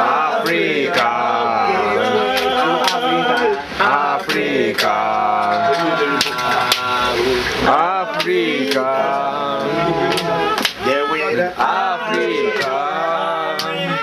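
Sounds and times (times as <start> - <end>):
men singing a chant: 0.0 - 14.0.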